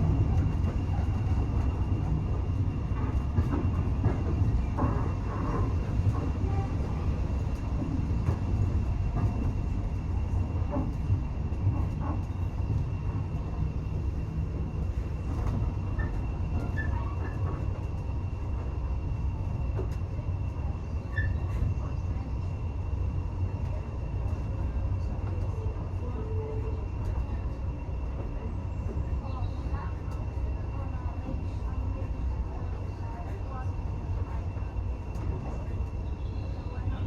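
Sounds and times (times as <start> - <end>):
railway carriage rumble on track: 0.0 - 37.0.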